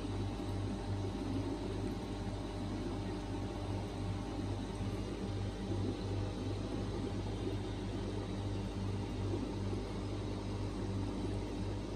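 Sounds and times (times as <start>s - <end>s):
aquarium pump humming: 0.0s - 11.9s.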